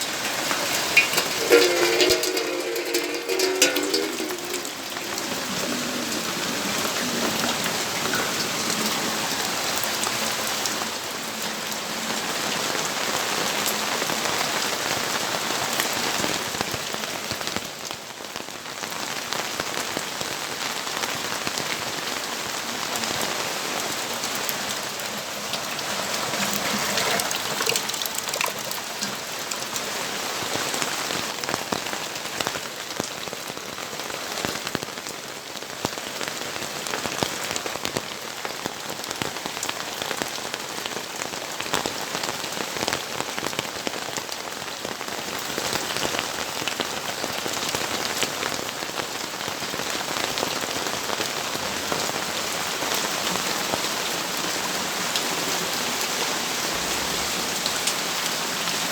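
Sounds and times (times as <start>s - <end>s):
rain hissing with drop ticks: 0.0s - 58.9s.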